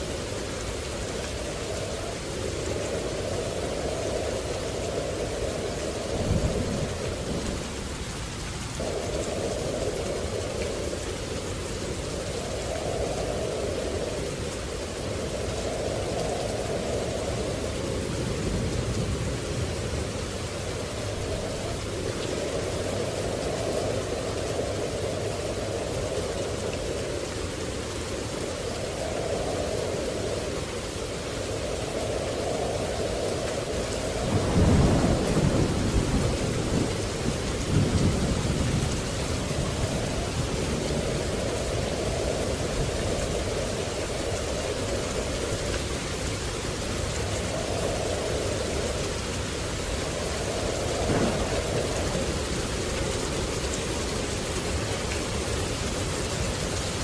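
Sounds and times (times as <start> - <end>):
steady rain: 0.0 - 57.0
thunder rumbling: 0.0 - 57.0.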